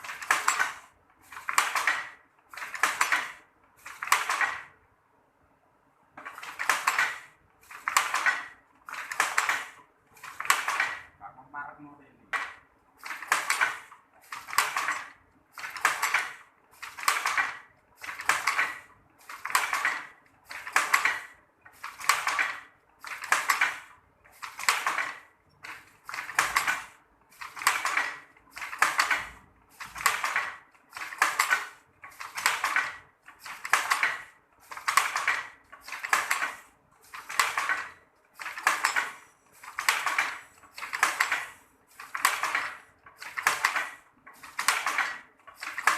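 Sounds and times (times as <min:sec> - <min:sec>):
loom clattering: 0:00.0 - 0:04.8, 0:06.2 - 0:11.2, 0:12.3 - 0:45.9.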